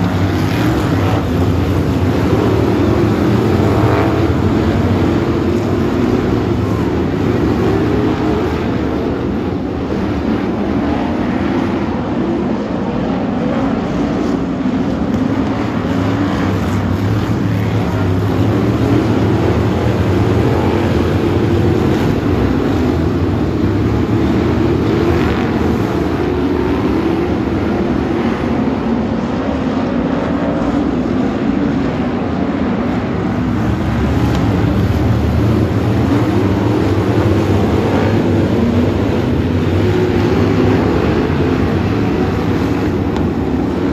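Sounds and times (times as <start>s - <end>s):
racing car engines blaring: 0.0s - 43.9s.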